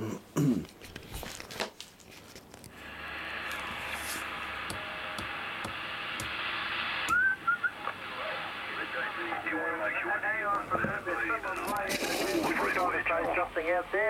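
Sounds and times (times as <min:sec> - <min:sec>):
radio static hiss: 0:02.7 - 0:14.0.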